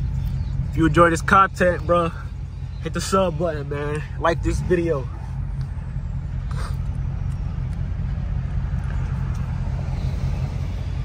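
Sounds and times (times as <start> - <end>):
car engine cruising drone: 0.0 - 11.0.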